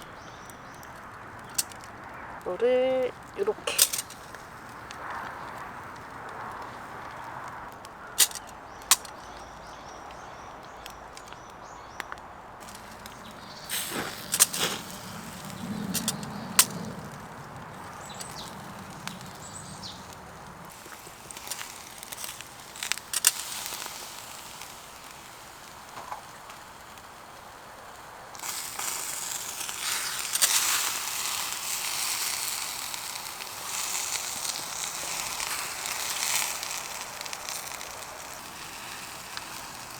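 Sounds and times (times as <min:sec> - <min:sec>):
steak sizzling on a grill: 0:00.0 - 0:08.4, 0:12.6 - 0:39.9
wood fire crackling and popping: 0:00.0 - 0:39.9.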